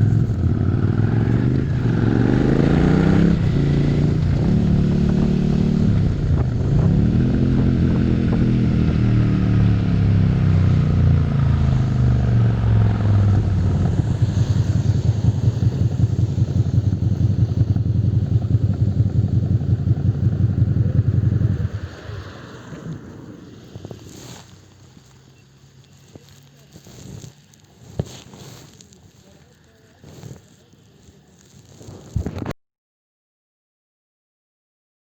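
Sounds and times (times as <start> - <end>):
motorcycle engine revving and idling: 0.0 - 30.6.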